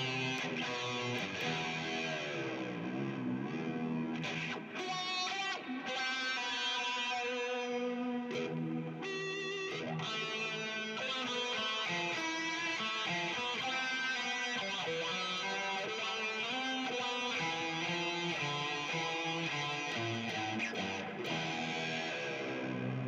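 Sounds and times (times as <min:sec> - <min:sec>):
distorted electric guitar: 0:00.0 - 0:23.0.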